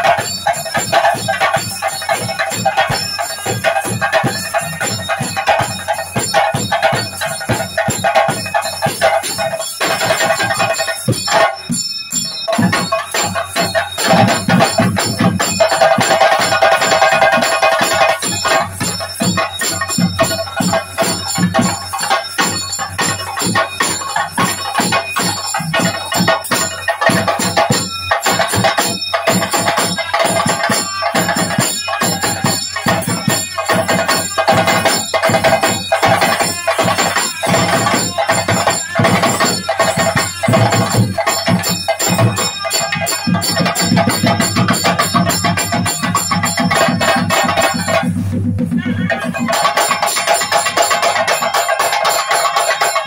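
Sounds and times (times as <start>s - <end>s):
fast drumming: 0.0s - 53.0s
metal cymbals ringing: 0.0s - 53.0s.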